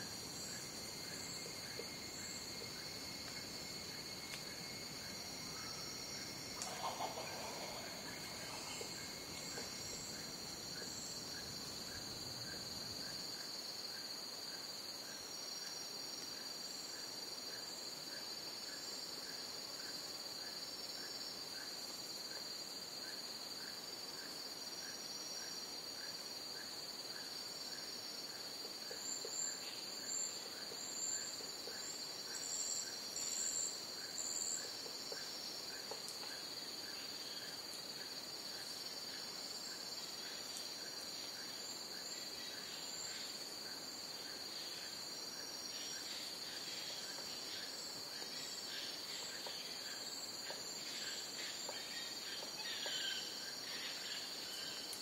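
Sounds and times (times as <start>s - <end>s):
brief low insect call: 0.0s - 55.0s
insects steady high trill: 0.0s - 55.0s
pulsing high insect calls: 0.0s - 55.0s.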